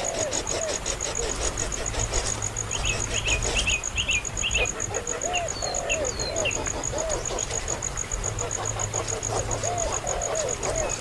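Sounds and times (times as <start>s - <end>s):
bird chirping: 0.0s - 11.0s
insect pulsing: 0.0s - 11.0s.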